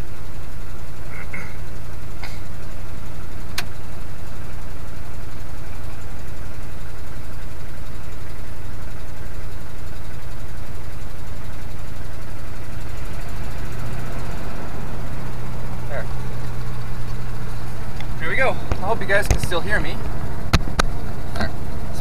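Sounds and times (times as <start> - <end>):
pickup engine at high idle: 0.0 - 22.0.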